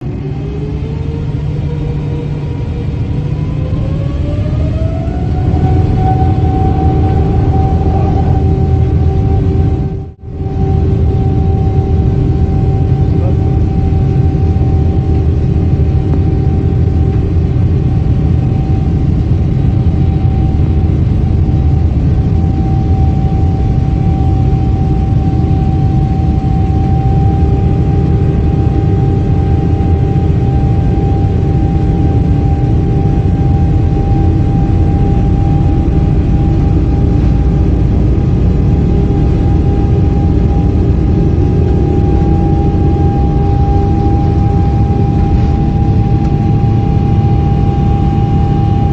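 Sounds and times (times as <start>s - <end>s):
aeroplane engines rumbling: 0.0s - 48.9s
engine whine: 0.0s - 48.9s.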